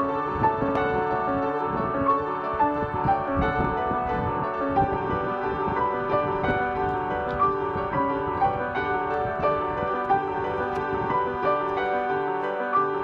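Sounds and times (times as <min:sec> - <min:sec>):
soft electronic instrumental music: 0:00.0 - 0:13.0.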